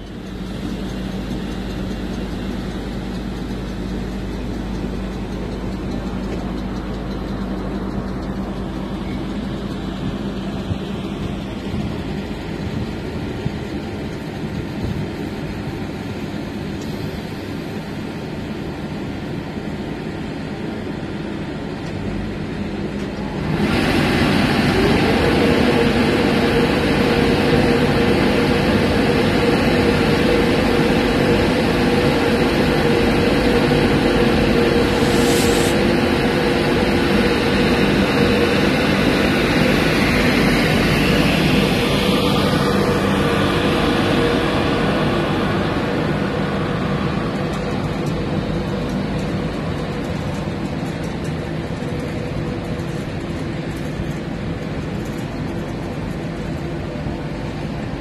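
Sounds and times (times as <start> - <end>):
cooling blowers whining drone: 0.0 - 58.0
locomotive electrical hum: 0.0 - 58.0.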